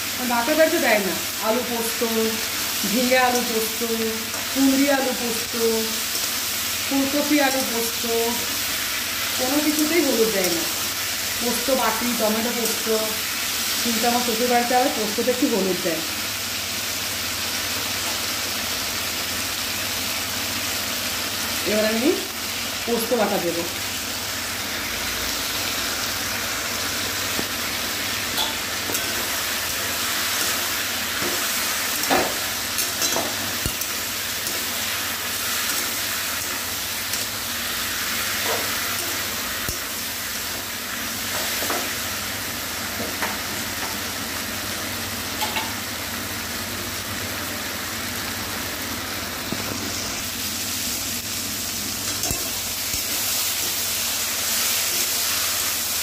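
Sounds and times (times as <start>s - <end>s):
vegetables sizzling in hot oil: 0.0s - 56.0s.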